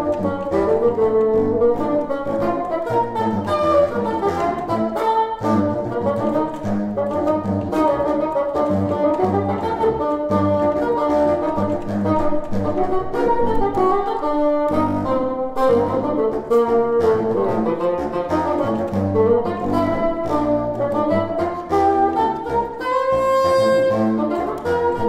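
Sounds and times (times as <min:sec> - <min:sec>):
bassoon melody: 0:00.0 - 0:25.0
contrabassoon low sustained notes: 0:00.0 - 0:25.0.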